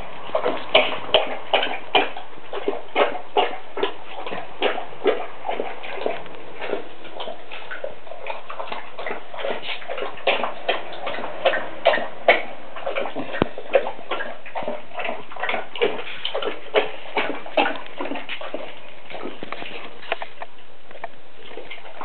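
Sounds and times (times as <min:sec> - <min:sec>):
dog lapping water: 0:00.0 - 0:20.7, 0:21.4 - 0:22.0.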